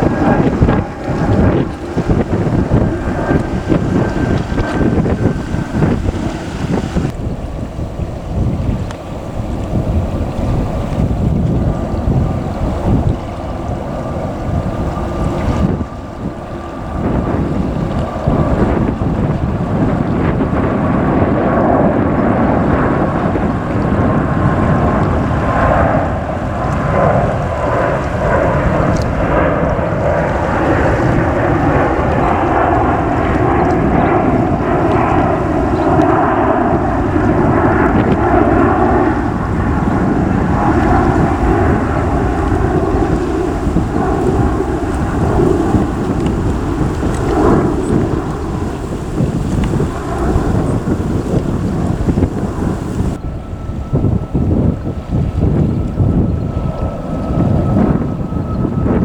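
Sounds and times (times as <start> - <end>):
falling jet whine: 0.0 - 8.4, 10.1 - 59.0
jet engine rumble: 0.0 - 59.0.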